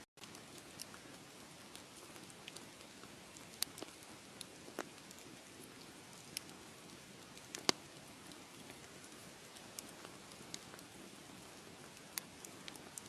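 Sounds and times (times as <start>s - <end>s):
wood fire crackling: 0.2s - 13.0s.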